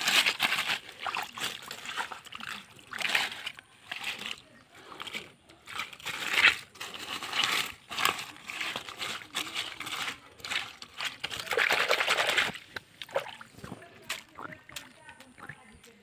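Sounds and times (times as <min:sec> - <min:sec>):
hands rustling wet leaves: 0:00.0 - 0:16.0
small water splashes: 0:00.0 - 0:16.0.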